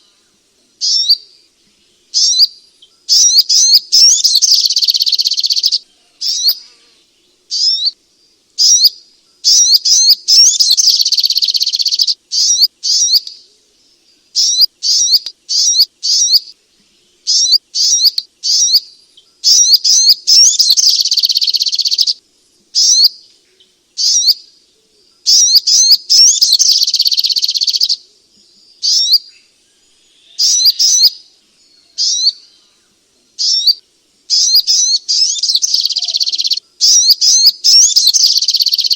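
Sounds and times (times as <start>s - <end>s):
bird chirping and trilling: 0.8s - 1.4s, 2.1s - 6.8s, 7.5s - 8.0s, 8.6s - 16.5s, 17.1s - 22.2s, 22.8s - 23.2s, 24.0s - 24.5s, 25.3s - 28.0s, 28.6s - 32.8s, 33.4s - 38.9s.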